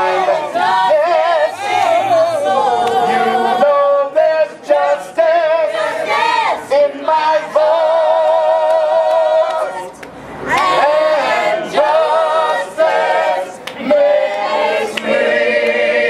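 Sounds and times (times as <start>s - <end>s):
choir singing long notes: 0.0s - 16.0s.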